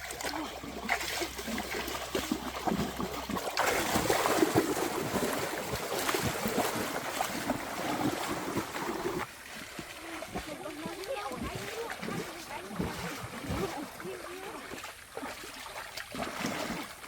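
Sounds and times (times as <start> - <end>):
water splashing and rushing: 0.0 - 17.0.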